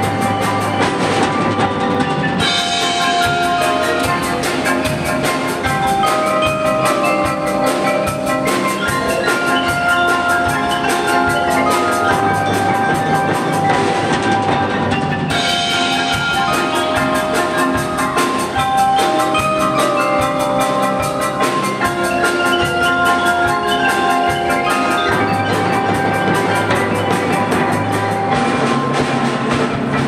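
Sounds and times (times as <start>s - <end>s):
live ensemble music: 0.0s - 30.0s.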